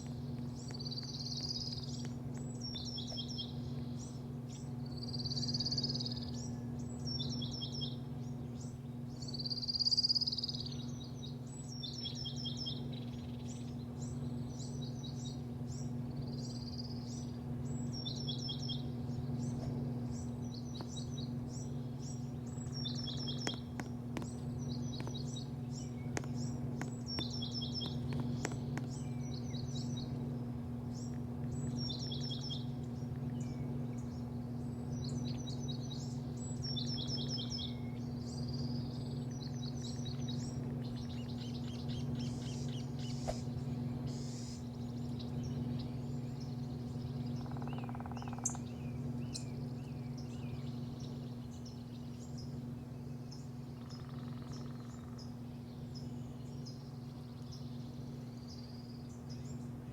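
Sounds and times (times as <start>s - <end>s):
low mechanical hum: 0.0s - 59.9s
small birds chirping: 0.0s - 59.9s.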